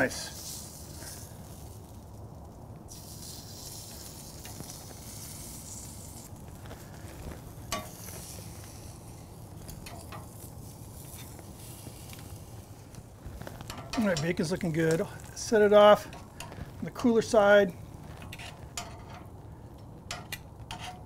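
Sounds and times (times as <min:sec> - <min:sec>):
bacon sizzling on grill: 0:00.0 - 0:21.0
wood fire crackling and popping: 0:00.0 - 0:21.0.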